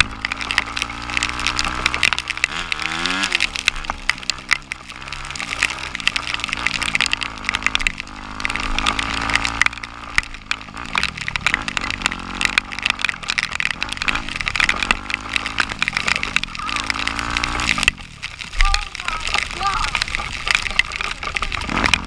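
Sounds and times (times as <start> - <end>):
off-road engine revving: 0.0 - 22.0
sharp ticks and clicks: 0.0 - 22.0.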